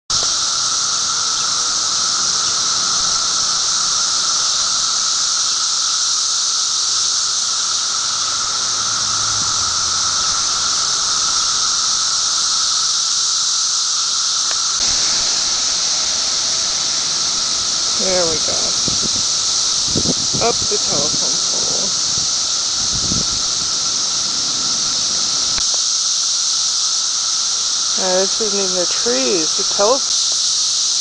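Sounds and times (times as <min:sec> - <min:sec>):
cicadas droning: 0:00.1 - 0:31.0.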